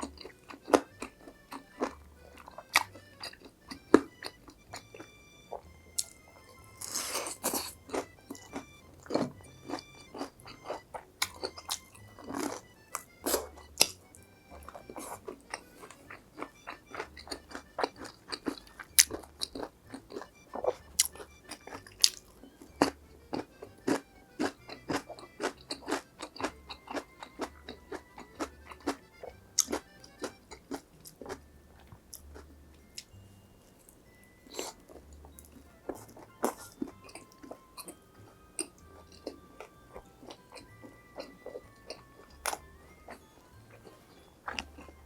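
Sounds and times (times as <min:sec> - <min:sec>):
crunching bites of fried food: 0:00.0 - 0:33.2, 0:33.8 - 0:45.0
light background music: 0:00.0 - 0:45.0.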